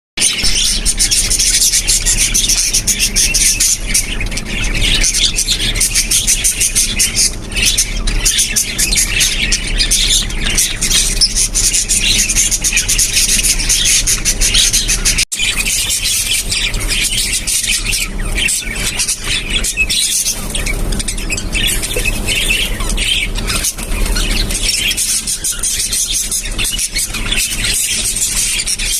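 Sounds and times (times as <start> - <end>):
parakeets chattering: 0.2 - 28.9.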